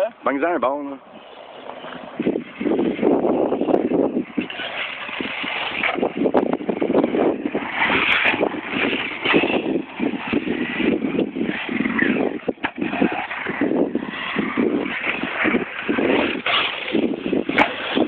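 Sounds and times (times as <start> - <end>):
tyres rushing on loose dirt: 1.0 - 18.0.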